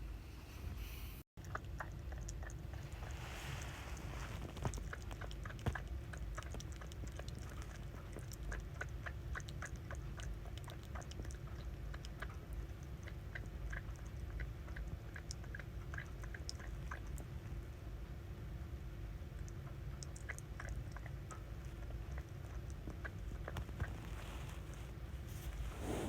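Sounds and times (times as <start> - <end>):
puppy chewing and smacking: 1.4 - 17.9, 19.0 - 26.0.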